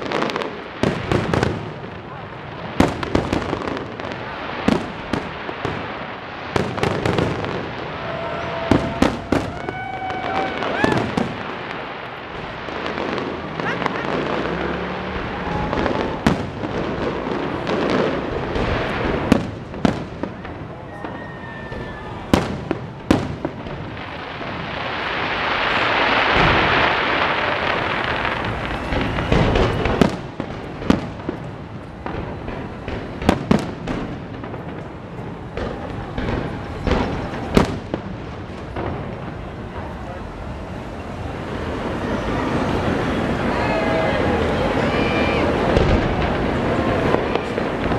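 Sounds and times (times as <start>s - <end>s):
fireworks booming overhead: 0.0s - 47.9s
rumble of fireworks show: 0.0s - 47.9s.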